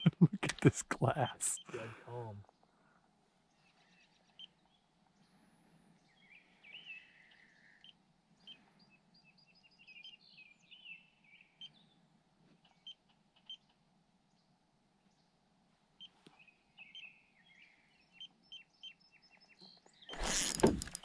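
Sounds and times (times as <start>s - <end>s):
songbirds singing: 1.1s - 21.0s.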